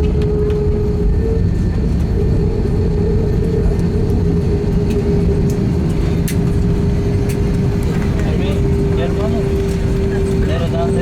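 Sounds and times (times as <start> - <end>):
airliner cabin rumble: 0.0 - 11.0
steady hum: 0.0 - 11.0.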